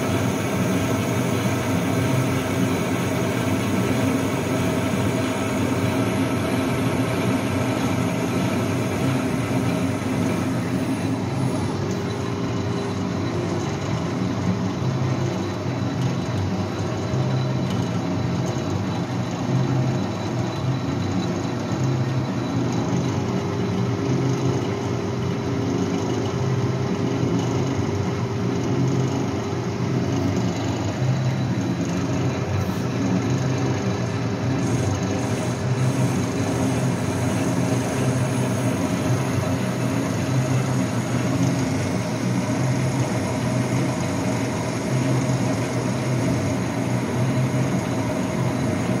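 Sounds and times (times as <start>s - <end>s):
metal lathe humming: 0.0s - 49.0s.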